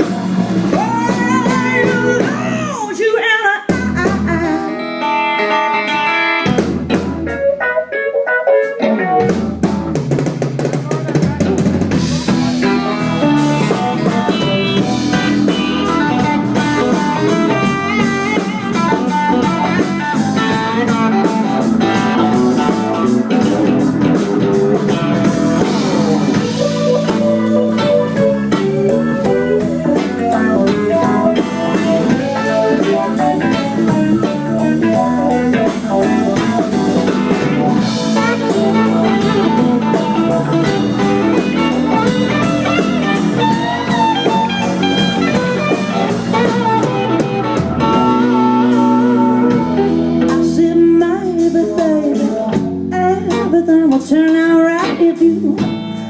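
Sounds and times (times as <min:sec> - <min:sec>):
blues-rock band playing: 0:00.0 - 0:56.0
electric guitar: 0:00.0 - 0:56.0.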